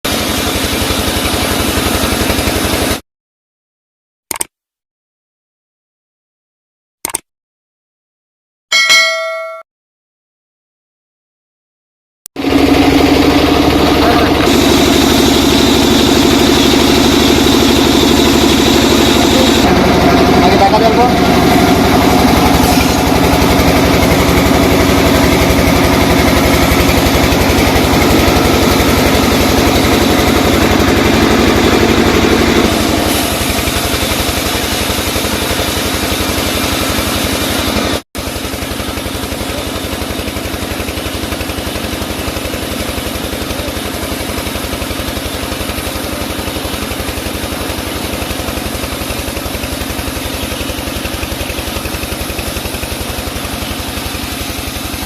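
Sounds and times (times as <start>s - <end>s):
sawmill machinery engine running: 0.1s - 3.0s, 12.4s - 55.0s.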